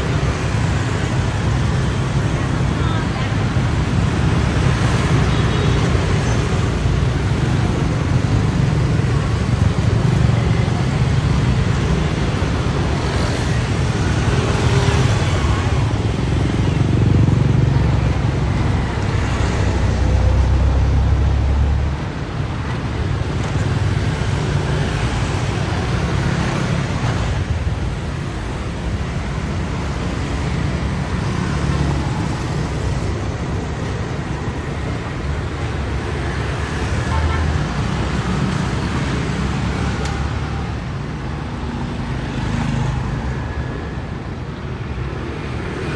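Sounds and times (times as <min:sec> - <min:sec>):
motorbike engines passing: 0:00.0 - 0:45.9
traffic hum: 0:00.0 - 0:45.9.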